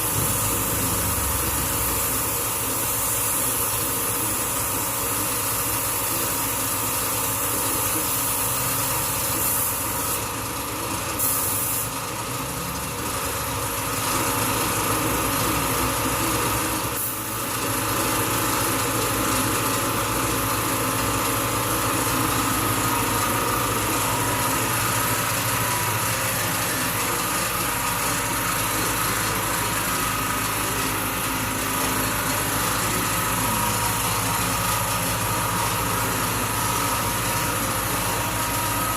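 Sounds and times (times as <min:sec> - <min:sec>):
small motor-driven machine humming: 0:00.0 - 0:38.9.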